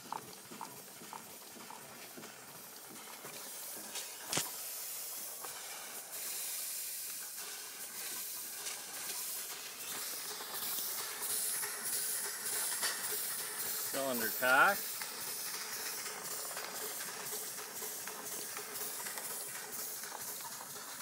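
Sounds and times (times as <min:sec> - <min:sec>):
steam hissing from boiler: 0:00.0 - 0:21.0.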